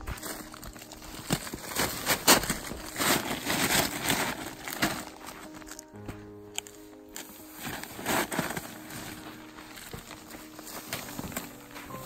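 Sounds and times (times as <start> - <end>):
tent fabric rustling and crinkling: 0.0 - 12.0.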